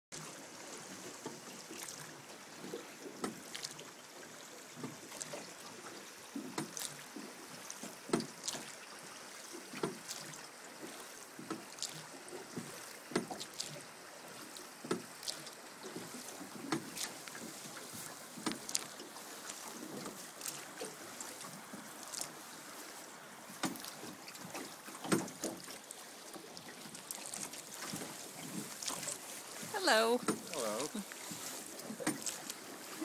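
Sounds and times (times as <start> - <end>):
river water splashing: 0.1 - 33.0
rush of moving water: 0.2 - 33.0.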